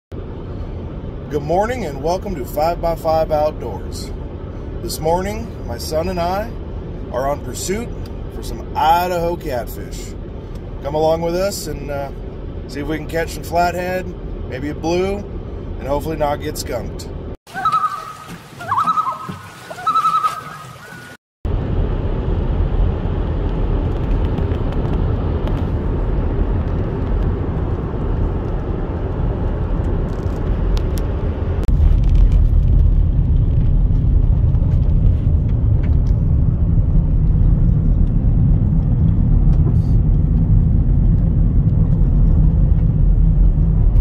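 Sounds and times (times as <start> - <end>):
car tyres and engine rumble: 0.1 - 44.0
tyres on gravel road: 0.2 - 44.0.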